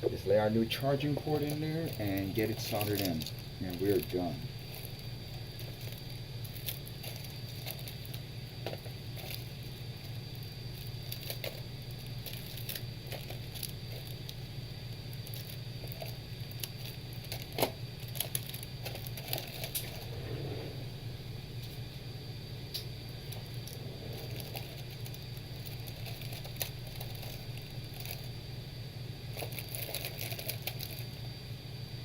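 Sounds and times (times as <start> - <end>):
faint high whine: 0.0 - 32.0
steady low hum: 0.0 - 32.0
small parts clicking and rustling: 0.8 - 20.0, 23.3 - 28.4, 29.3 - 31.2.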